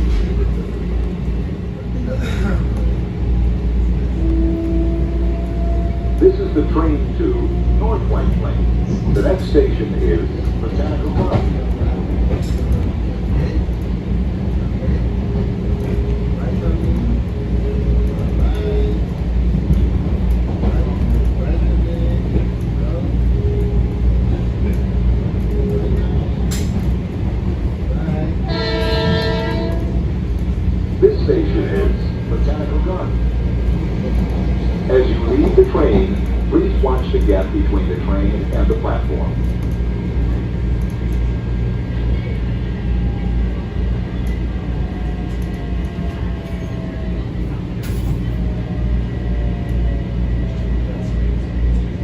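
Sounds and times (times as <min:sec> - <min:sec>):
wheels rumbling on rails: 0:00.0 - 0:52.0.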